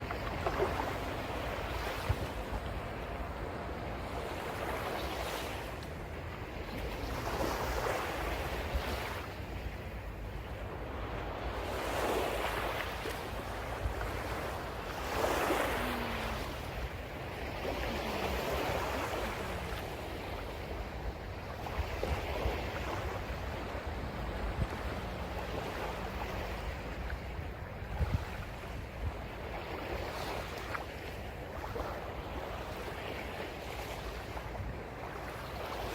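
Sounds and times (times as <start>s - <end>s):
sea waves breaking: 0.0s - 35.9s
wind rumble on microphone: 0.0s - 35.9s.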